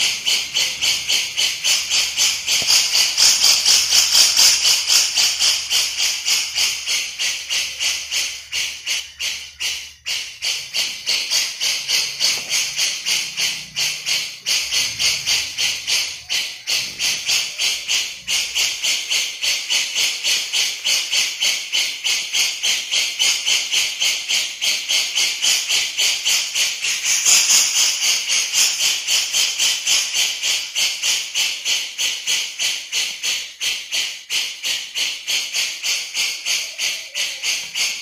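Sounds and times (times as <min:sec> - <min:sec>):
bird harsh rattling call: 0:00.0 - 0:38.0.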